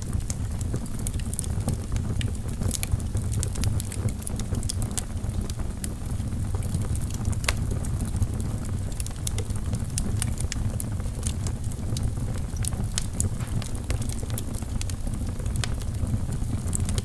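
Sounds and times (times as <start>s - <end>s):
burning logs crackling and popping: 0.0s - 17.0s
fire flames rumbling: 0.0s - 17.0s.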